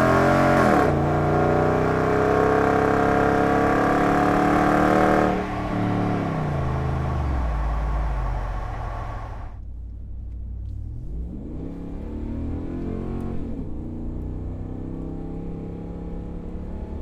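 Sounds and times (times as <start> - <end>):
engine exhaust revving and idling: 0.0 - 17.0.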